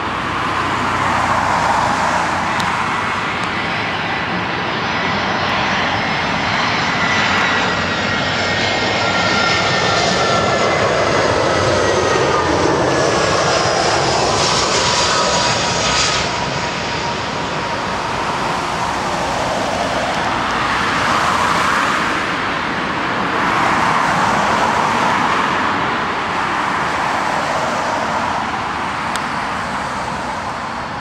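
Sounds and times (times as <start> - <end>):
road traffic rushing past: 0.0 - 5.2, 10.3 - 31.0.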